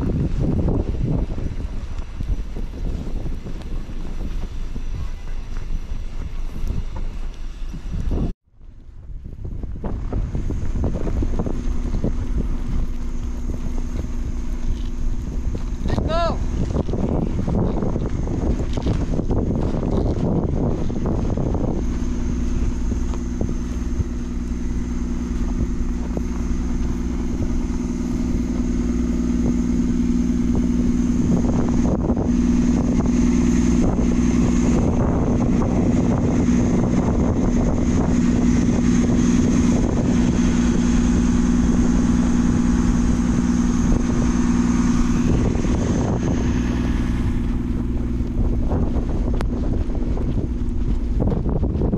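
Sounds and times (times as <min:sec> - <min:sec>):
bus diesel engine idling: 0:00.0 - 0:51.9.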